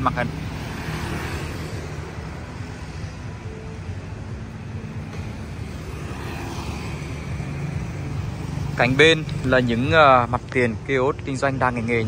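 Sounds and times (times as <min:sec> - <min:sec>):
motorbike and car engines humming: 0:00.0 - 0:12.0.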